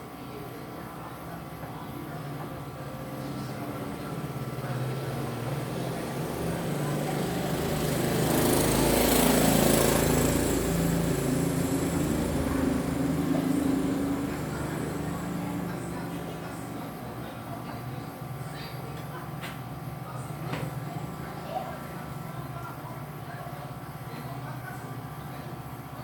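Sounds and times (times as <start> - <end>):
engine running: 1.7 - 26.0.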